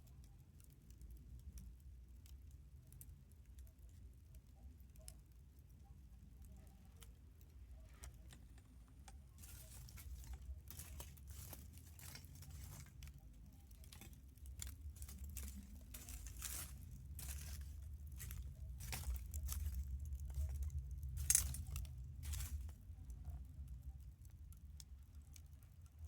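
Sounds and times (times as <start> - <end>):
campfire crackling and popping: 0.0 - 26.0
low steady rumble: 0.0 - 26.0.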